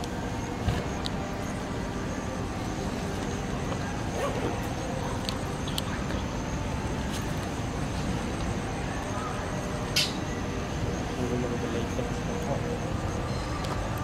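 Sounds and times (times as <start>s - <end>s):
faint high whine: 0.0s - 14.0s
low rumbling background noise: 0.0s - 14.0s.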